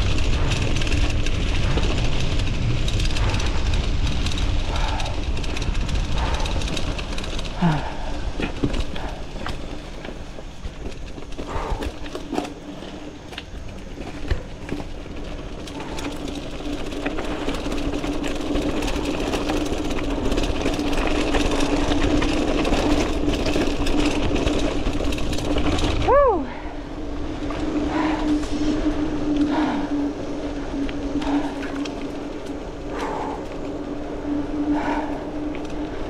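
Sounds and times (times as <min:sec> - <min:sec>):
clicks and rattles over bumps: 0:00.0 - 0:30.0
bike tyres on gravel: 0:00.0 - 0:36.0
steady hum: 0:00.0 - 0:36.0.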